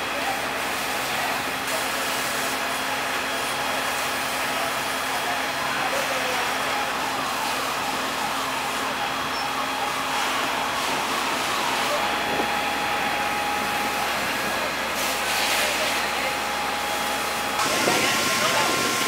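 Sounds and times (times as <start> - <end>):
fire engines running: 0.0 - 19.0
fire hoses spraying: 0.0 - 19.0
voices: 0.0 - 19.0.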